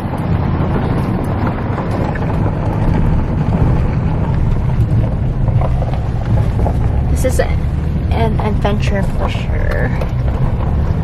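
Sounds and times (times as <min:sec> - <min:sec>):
pickup engine and tyres rumbling: 0:00.0 - 0:11.0
wind noise on microphone: 0:00.0 - 0:11.0.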